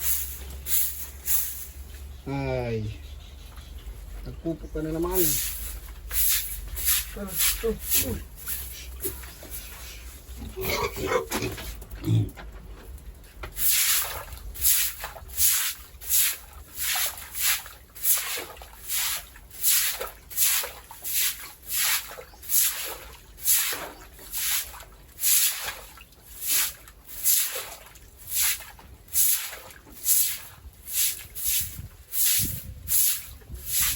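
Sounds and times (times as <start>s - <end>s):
broom swishing on floor: 0.0s - 2.1s, 5.2s - 10.4s, 13.6s - 33.9s.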